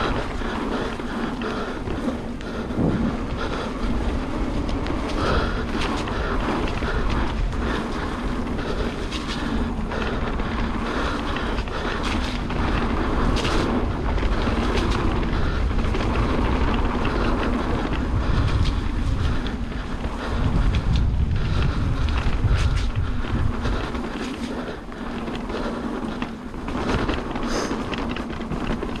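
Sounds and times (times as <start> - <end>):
bike clicks and rattles: 0.0 - 29.0
wind rushing over microphone: 0.0 - 29.0.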